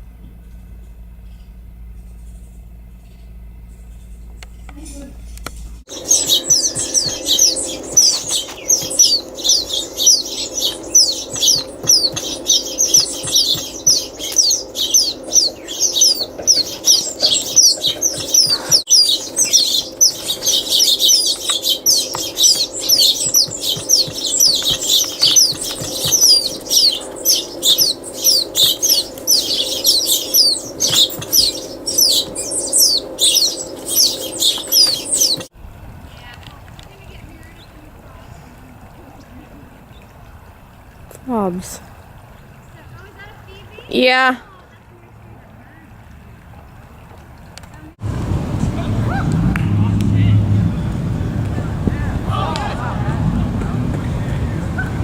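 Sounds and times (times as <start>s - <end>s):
small birds chirping: 0.0s - 55.0s
steady low hum: 0.0s - 55.0s.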